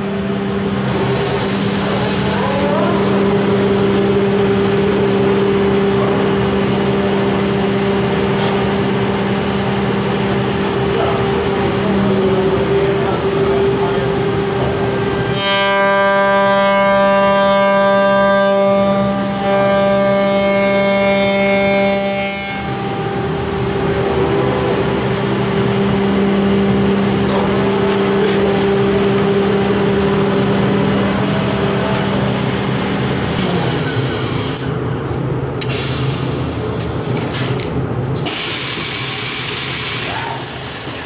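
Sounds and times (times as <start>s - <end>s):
machine hum over noisy rush: 0.0s - 41.0s.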